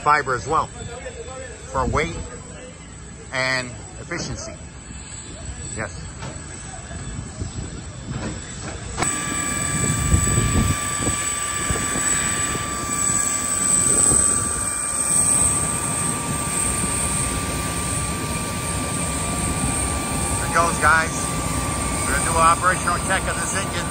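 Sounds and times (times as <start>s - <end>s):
jet engine starting up: 3.8s - 23.9s.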